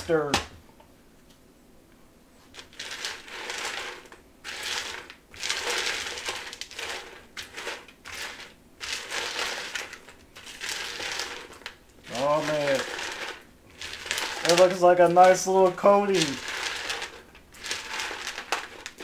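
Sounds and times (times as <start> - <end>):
spatula stirring snack mix in bowl: 2.4 - 19.0.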